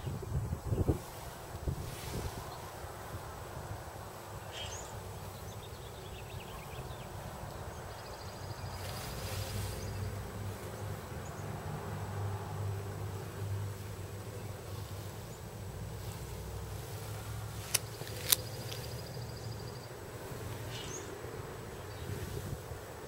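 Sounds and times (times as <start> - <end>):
soft hiss: 0.0 - 23.0.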